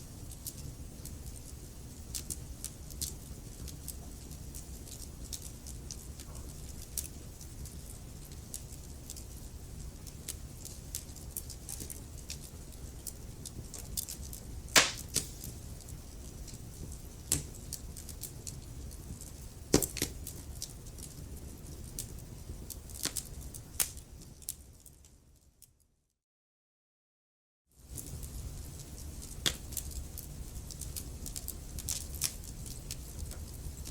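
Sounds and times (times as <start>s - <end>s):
wood fire crackling: 0.0s - 25.5s, 27.8s - 33.9s.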